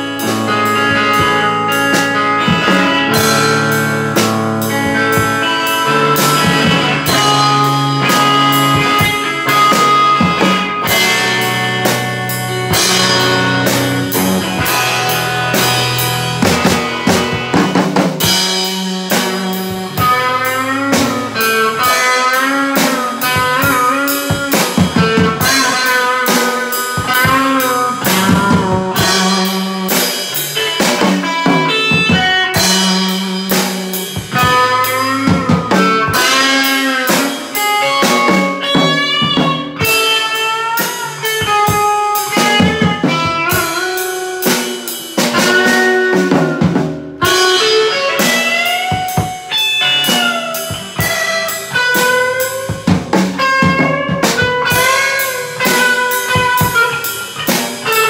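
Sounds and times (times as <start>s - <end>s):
drum kit with cymbals: 0.0s - 58.0s
electric guitar bluesy notes: 0.0s - 58.0s.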